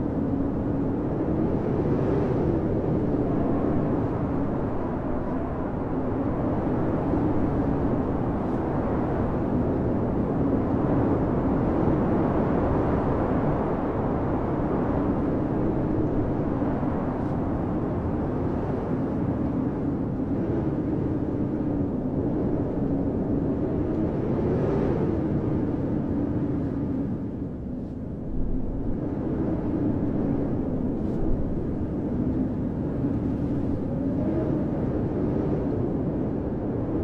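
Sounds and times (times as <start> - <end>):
blizzard wind howling: 0.0 - 37.0.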